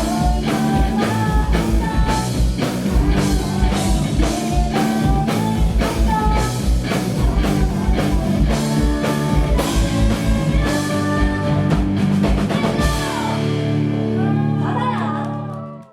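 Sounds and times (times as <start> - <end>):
rapid drum fill: 0.0 - 13.7
heavy metal band playing: 0.0 - 14.9.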